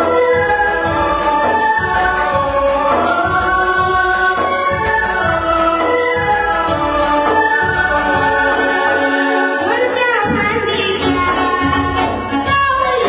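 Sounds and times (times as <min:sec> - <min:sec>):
instrumental accompaniment with beat: 0:00.0 - 0:13.0.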